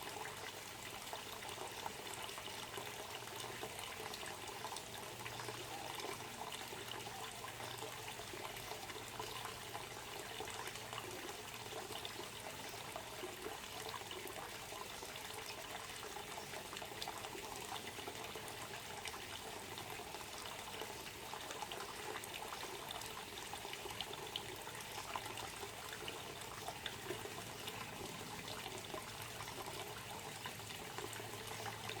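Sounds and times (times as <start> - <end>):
water trickling: 0.0 - 32.0.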